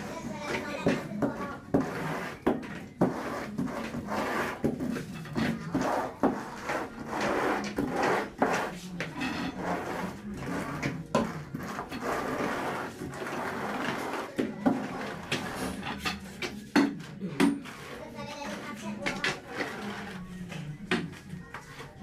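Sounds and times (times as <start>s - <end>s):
floor squeegee scraping wet coating: 0.0s - 16.7s, 17.6s - 20.3s.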